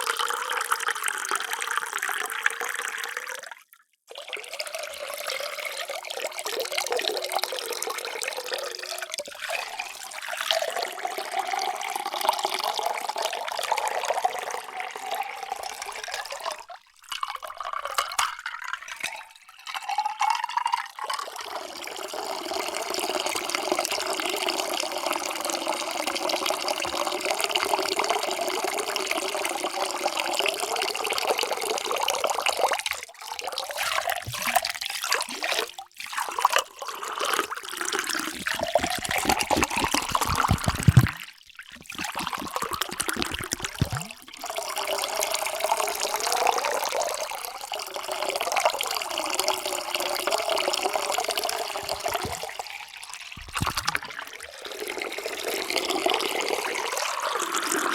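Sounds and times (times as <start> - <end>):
water pouring into vessel: 0.0 - 57.9.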